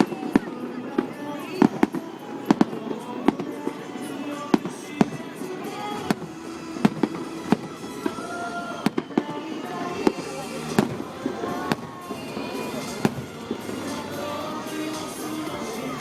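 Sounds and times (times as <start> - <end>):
aerial fireworks bursting: 0.0 - 16.0
background music: 0.0 - 16.0.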